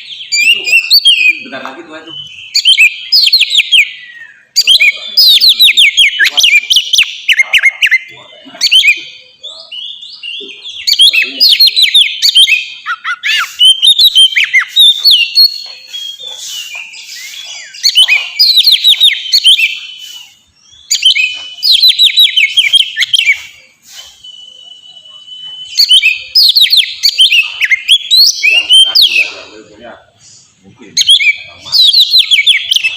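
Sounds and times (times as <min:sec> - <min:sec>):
bird singing whistled notes: 0:00.0 - 0:30.1, 0:30.9 - 0:32.9.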